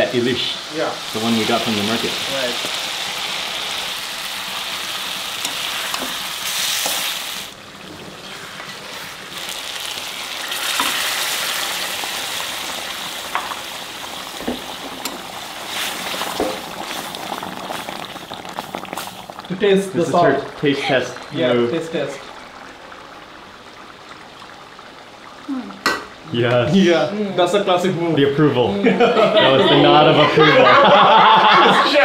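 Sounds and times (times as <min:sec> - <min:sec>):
fish sizzling in a wok: 0:00.0 - 0:26.4.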